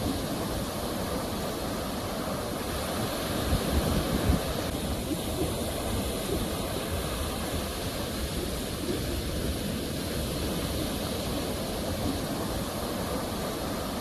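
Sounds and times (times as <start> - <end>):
ocean waves washing ashore: 0.0 - 14.0.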